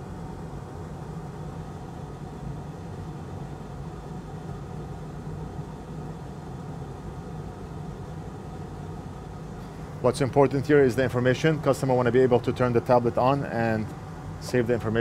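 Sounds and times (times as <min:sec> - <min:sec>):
low machine hum with hiss: 0:00.0 - 0:15.0.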